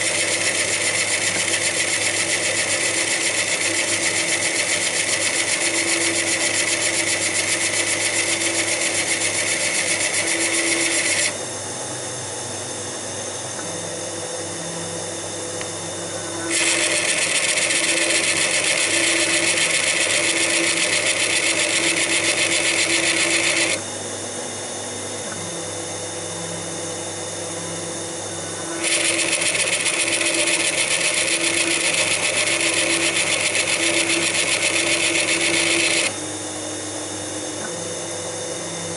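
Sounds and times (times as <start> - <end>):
lathe humming: 0.0 - 11.9, 14.5 - 25.2, 26.6 - 37.3.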